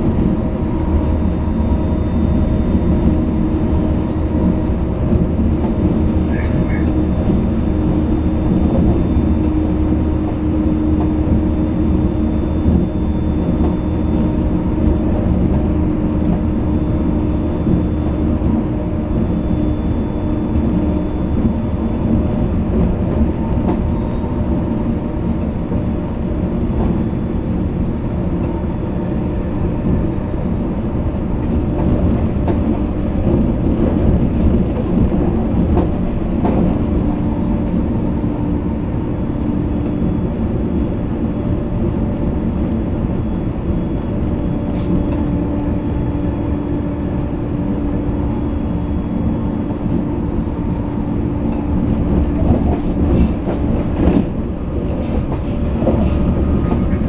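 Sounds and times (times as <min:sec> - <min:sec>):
humming tone: 0:00.0 - 0:57.0
train wheels rumbling on rail: 0:00.0 - 0:57.0.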